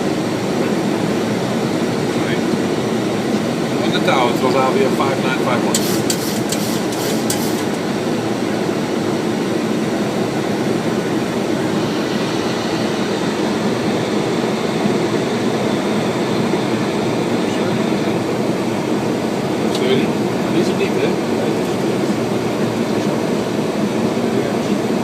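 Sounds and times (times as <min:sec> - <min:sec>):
airflow and air conditioning: 0:00.0 - 0:25.0.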